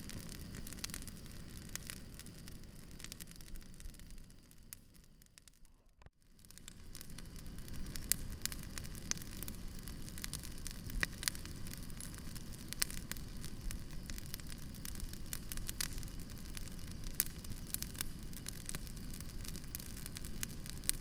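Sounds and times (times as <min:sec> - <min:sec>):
bonfire crackling and popping: 0:00.0 - 0:21.0
low rumble of burning wood: 0:00.0 - 0:21.0.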